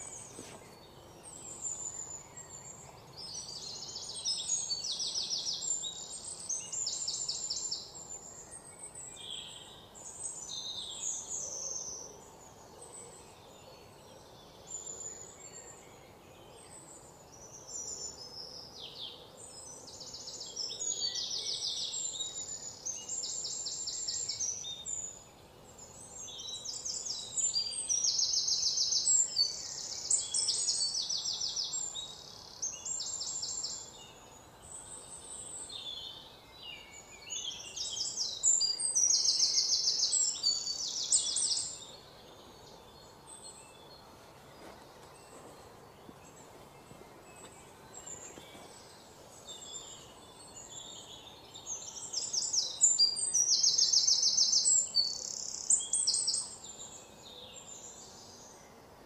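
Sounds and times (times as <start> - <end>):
small birds singing and chirping: 0.0 - 59.0.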